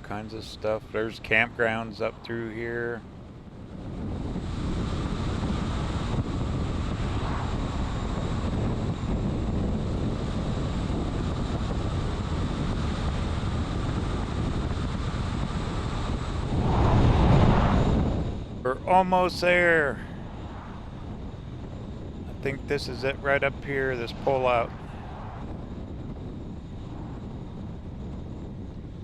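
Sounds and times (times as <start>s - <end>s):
vehicle road noise: 0.0s - 28.0s
wind buffeting microphone: 0.0s - 29.0s.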